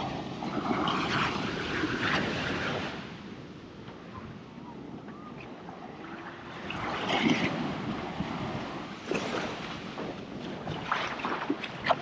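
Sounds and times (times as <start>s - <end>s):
surf washing on sandy beach: 0.0s - 12.0s
wind buffeting microphone: 0.0s - 12.0s.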